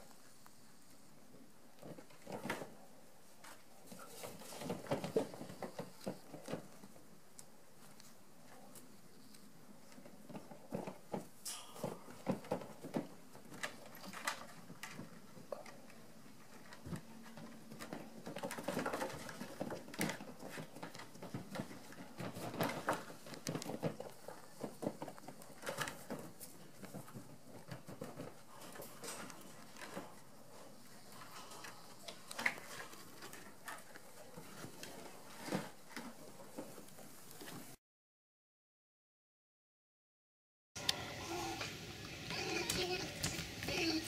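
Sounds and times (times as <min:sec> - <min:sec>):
bear cubs scuffling on plastic pipe: 0:01.8 - 0:37.8.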